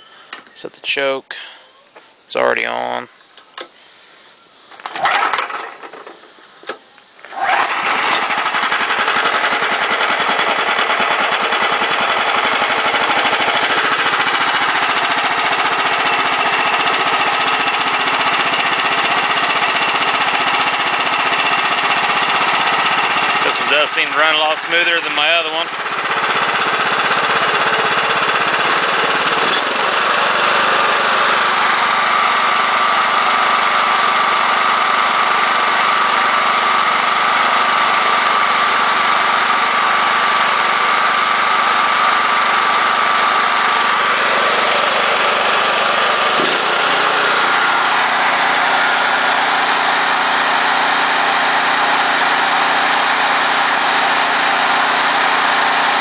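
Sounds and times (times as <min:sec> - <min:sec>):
small engine running steadily: 0:04.8 - 0:56.0.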